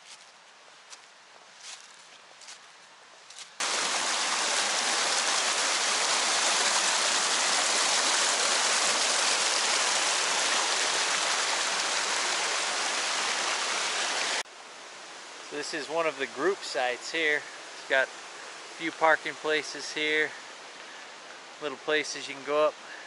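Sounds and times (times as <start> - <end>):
creek rushing over rocks: 3.6 - 14.5, 15.2 - 23.0.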